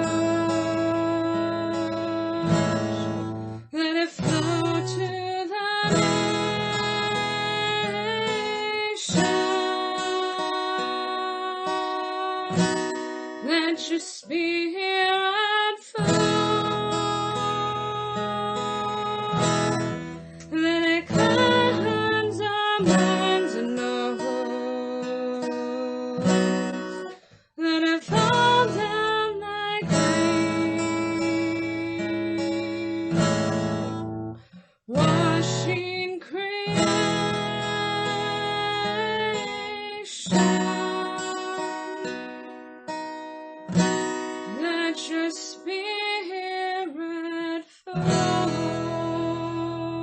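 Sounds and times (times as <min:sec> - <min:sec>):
acoustic guitar strumming chords: 0:00.0 - 0:13.9, 0:16.0 - 0:27.3, 0:28.0 - 0:45.8, 0:48.0 - 0:50.0
woman singing wordless melody: 0:00.0 - 0:34.1, 0:34.9 - 0:42.4, 0:44.4 - 0:50.0.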